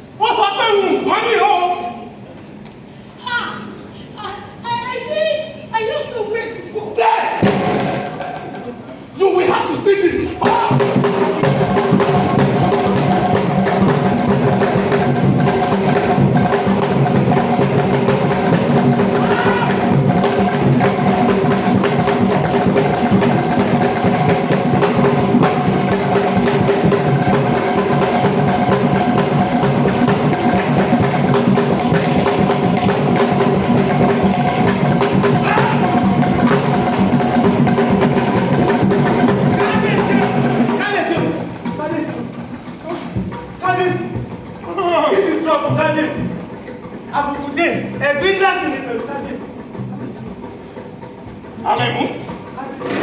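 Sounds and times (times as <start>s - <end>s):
drum music: 7.0s - 53.0s.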